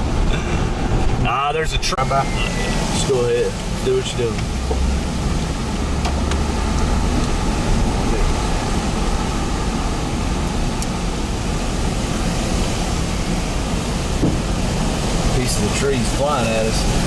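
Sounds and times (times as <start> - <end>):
strong wind blowing: 0.0 - 17.0
wind buffeting microphone: 0.0 - 17.0.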